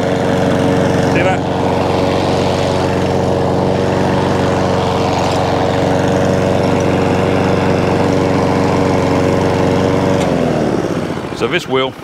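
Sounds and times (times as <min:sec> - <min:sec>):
petrol lawn mower running: 0:00.0 - 0:12.0.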